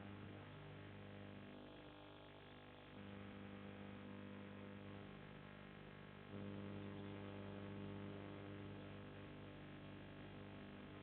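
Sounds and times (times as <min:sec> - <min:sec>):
faint electrical mains hum: 0:00.0 - 0:11.0.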